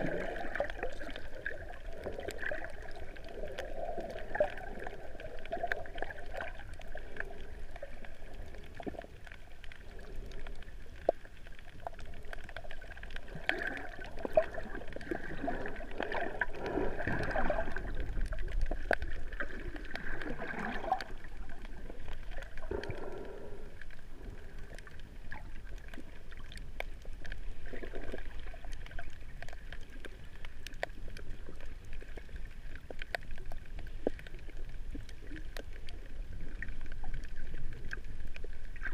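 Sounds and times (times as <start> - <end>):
muffled underwater water rush: 0.0 - 38.9
small clicks and crackles: 0.0 - 38.9.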